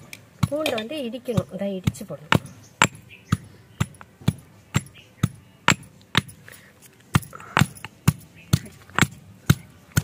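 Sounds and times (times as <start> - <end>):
stone pestle pounding in mortar: 0.4 - 6.4, 7.1 - 10.0.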